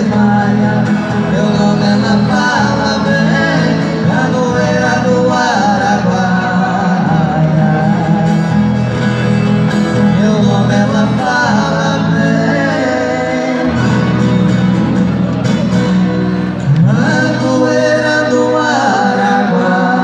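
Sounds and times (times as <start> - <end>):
two men singing in duet: 0.0 - 14.6, 16.6 - 20.0
strummed acoustic guitar: 0.0 - 20.0.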